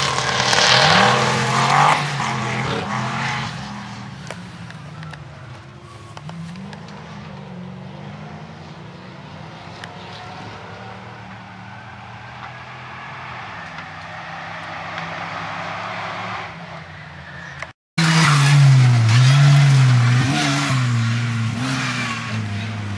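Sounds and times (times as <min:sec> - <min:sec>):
distant off-road engine revving: 0:00.0 - 0:22.9.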